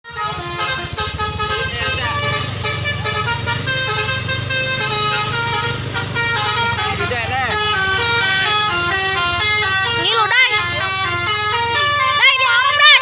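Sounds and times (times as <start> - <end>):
musical air horn melody: 0.0 - 13.0
bus engine hum: 0.1 - 13.0.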